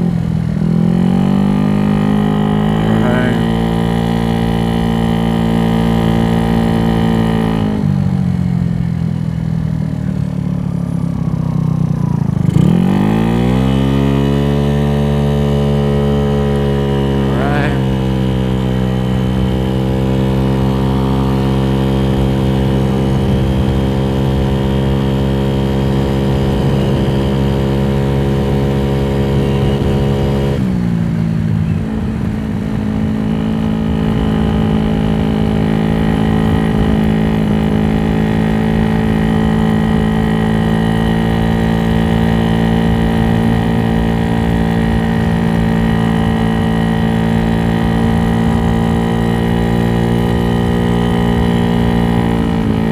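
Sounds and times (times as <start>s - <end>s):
scooter engine running: 0.0s - 52.9s.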